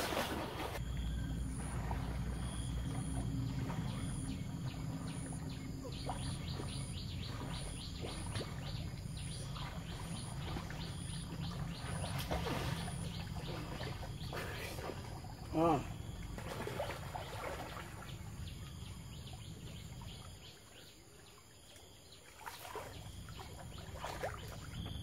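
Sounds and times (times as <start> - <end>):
swimmer splashing water: 0.0 - 20.6, 22.2 - 25.0
birds chirping: 0.6 - 21.5, 22.8 - 25.0.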